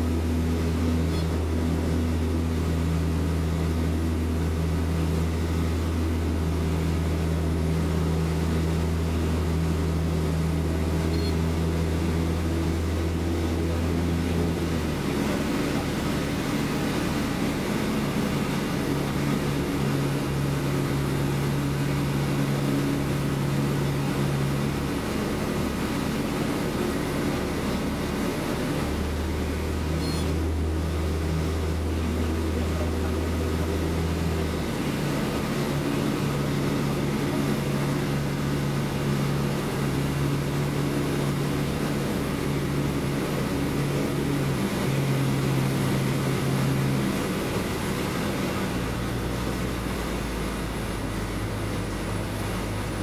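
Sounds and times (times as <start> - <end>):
airplane engine droning in cabin: 0.0 - 53.0.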